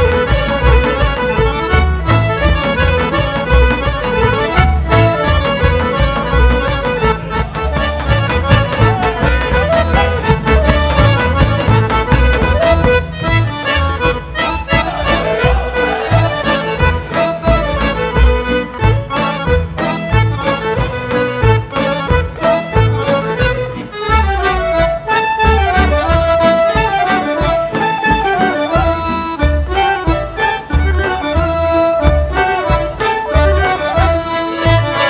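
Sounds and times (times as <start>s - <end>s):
accordion melody: 0.0s - 35.0s
folk orchestra playing dance tune: 0.0s - 35.0s.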